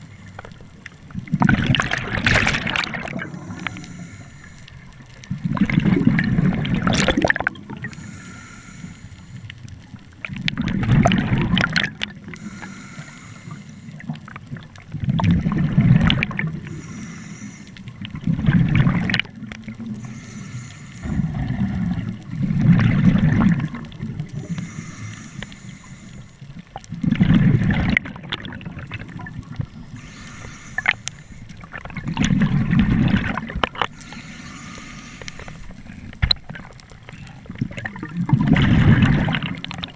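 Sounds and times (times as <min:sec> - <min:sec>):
regulator bubbles gurgling underwater: 0:00.0 - 0:39.9.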